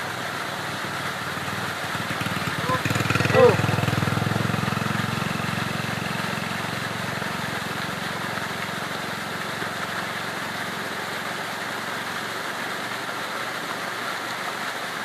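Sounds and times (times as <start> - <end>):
small engine running: 0.0 - 14.6.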